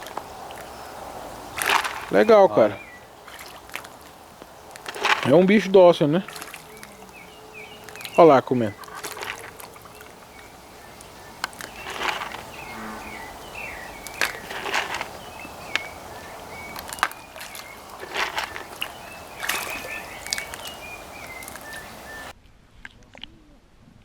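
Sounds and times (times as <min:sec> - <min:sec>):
small birds chirping: 0:00.0 - 0:22.3
splashes and plops in water: 0:00.0 - 0:22.3.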